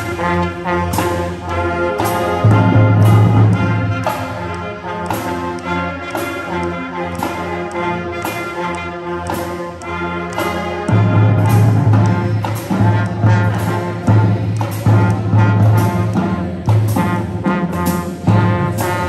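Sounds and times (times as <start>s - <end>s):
loud low brass notes: 0.0s - 19.0s
marching band playing: 0.0s - 19.0s.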